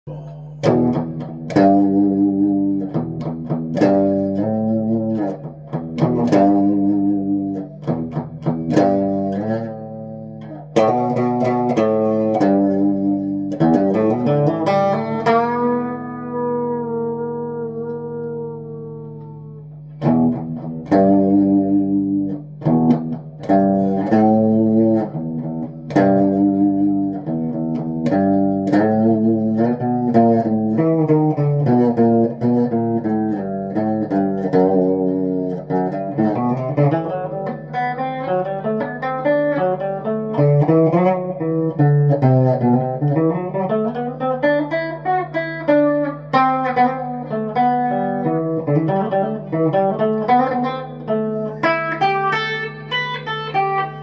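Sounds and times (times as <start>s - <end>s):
electric guitar chord stabs: 0.1s - 54.0s
electric guitar lead line: 0.1s - 54.0s.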